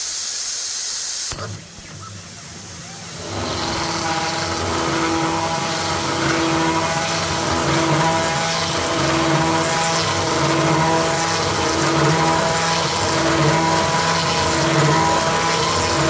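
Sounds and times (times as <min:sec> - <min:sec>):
router spindle milling metal: 0:01.3 - 0:16.0.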